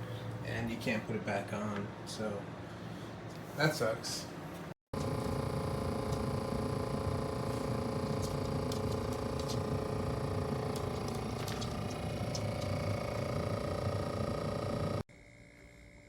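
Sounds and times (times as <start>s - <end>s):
steady hum with low rumble: 0.0s - 16.0s.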